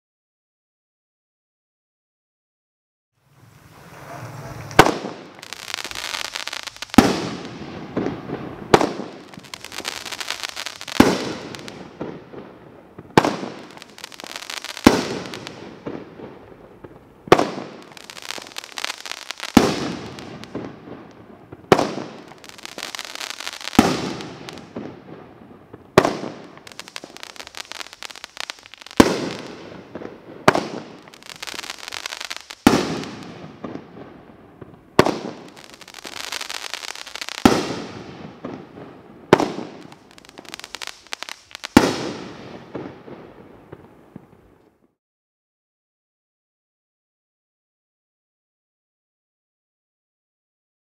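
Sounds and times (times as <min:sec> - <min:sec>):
firework bangs: 0:03.4 - 0:44.5.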